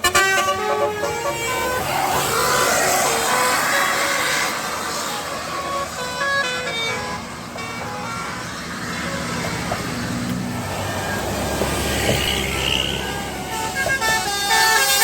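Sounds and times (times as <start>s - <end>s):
bus horn playing a quick tune: 0.0s - 9.3s, 11.9s - 15.0s
passing traffic noise: 0.0s - 15.0s.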